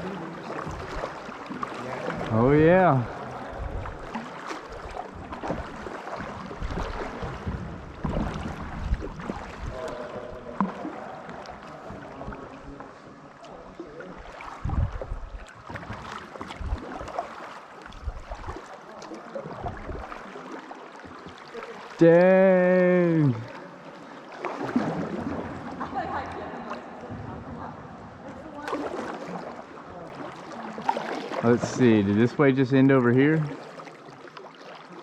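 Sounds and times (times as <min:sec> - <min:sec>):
paddle strokes in water: 0:00.0 - 0:35.0.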